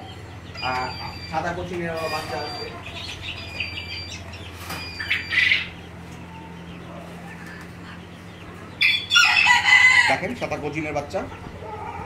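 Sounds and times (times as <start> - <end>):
chickens chirping: 0.0 - 12.0
steady low hum: 0.0 - 12.0
chicken squawk: 1.0 - 10.3, 11.3 - 12.0.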